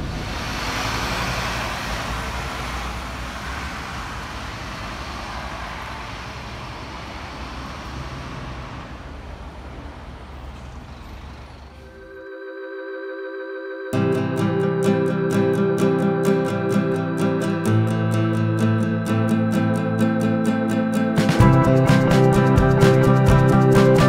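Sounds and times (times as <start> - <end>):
bus engine pulling away: 0.0 - 12.2, 14.0 - 24.0
street traffic: 0.0 - 12.4, 13.9 - 24.0.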